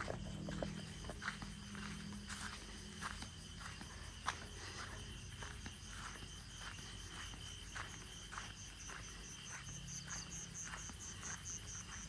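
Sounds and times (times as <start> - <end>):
insects chirping faintly: 0.0 - 12.0.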